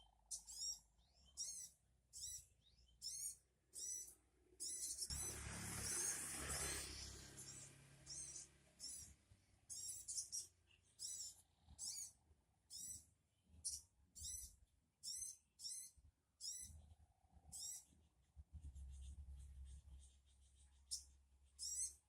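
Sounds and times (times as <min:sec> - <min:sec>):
high-pitched bird calls: 0:00.1 - 0:13.0, 0:13.6 - 0:16.8, 0:17.5 - 0:17.9, 0:19.6 - 0:22.0.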